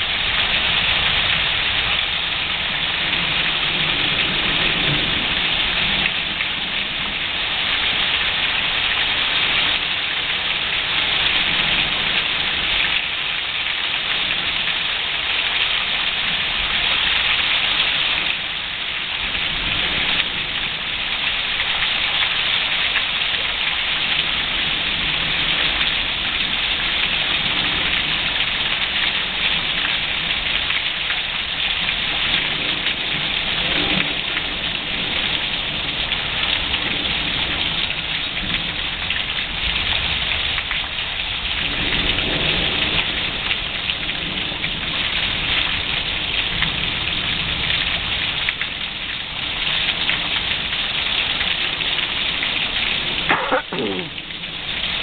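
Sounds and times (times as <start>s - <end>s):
rain pouring: 0.0s - 55.0s.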